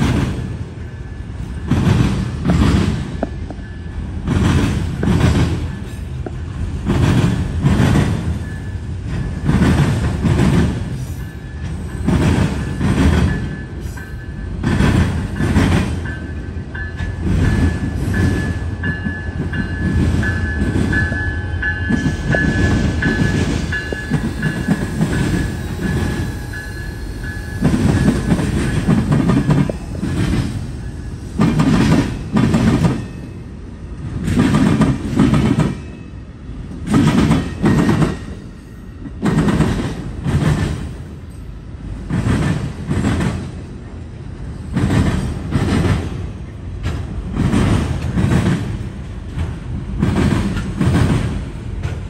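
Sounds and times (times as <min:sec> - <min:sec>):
passenger train rumble: 0:00.0 - 0:52.0
train wheels clacking over rail joints: 0:01.4 - 0:30.7, 0:31.4 - 0:33.2, 0:34.1 - 0:35.9, 0:36.8 - 0:38.4, 0:39.1 - 0:41.1, 0:42.0 - 0:43.6, 0:44.7 - 0:52.0.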